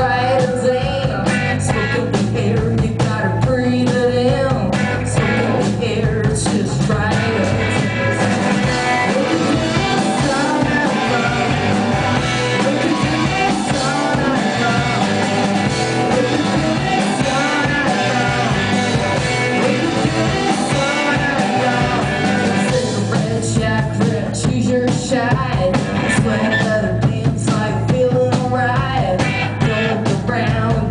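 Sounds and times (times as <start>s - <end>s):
drums: 0.0s - 30.9s
electric guitar: 0.0s - 30.9s
person singing: 0.0s - 30.9s.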